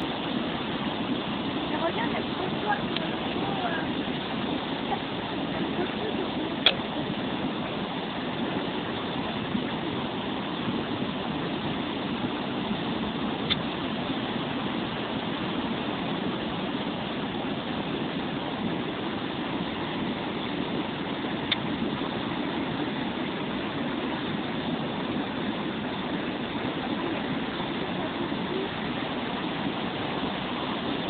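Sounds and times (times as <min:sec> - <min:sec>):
flood water rushing over road: 0:00.0 - 0:31.0.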